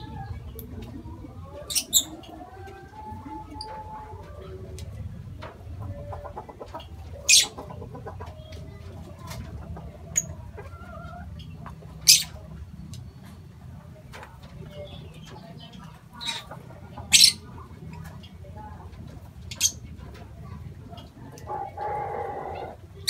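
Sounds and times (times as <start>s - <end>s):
birds chattering and chirping: 0.0s - 23.0s.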